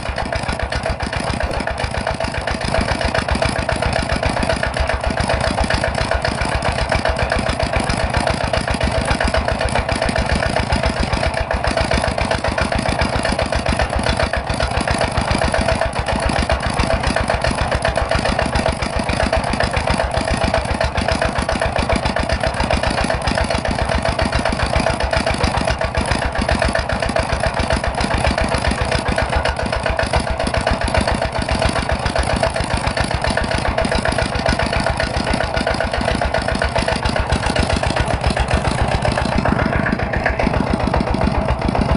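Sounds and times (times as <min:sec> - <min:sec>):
small milling machine running: 0:00.0 - 0:41.9.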